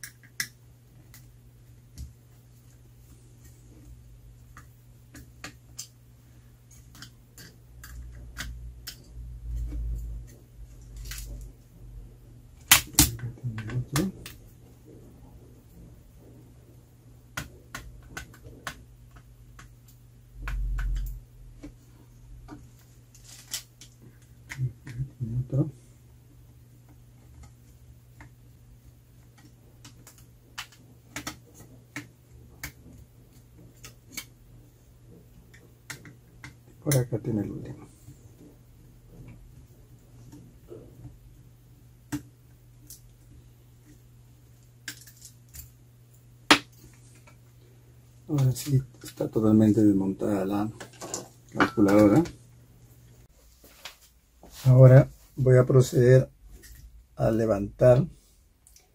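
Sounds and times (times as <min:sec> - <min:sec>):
faint low hum: 0:00.0 - 0:58.9.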